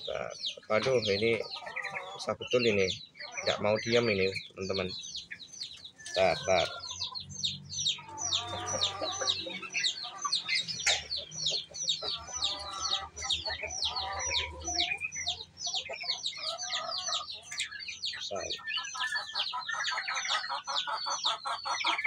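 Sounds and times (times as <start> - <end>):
birds chirping: 0.0 - 22.0
lower bird calls: 0.0 - 22.0.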